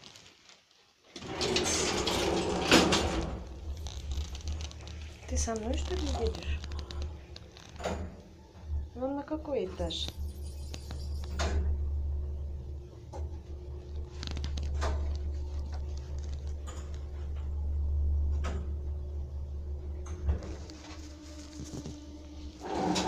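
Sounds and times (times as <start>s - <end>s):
lift car humming: 1.2s - 9.2s, 9.8s - 23.0s.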